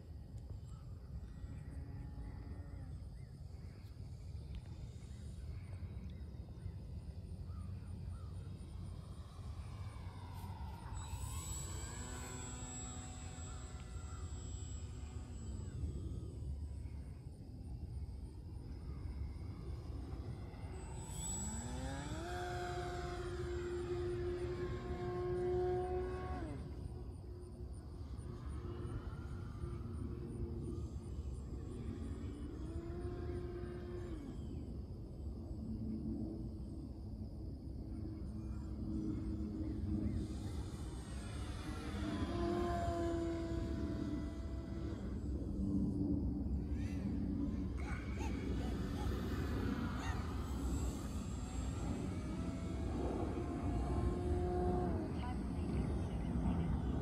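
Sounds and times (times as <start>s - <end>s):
model plane motor flying past: 0.0s - 34.9s, 38.2s - 57.0s.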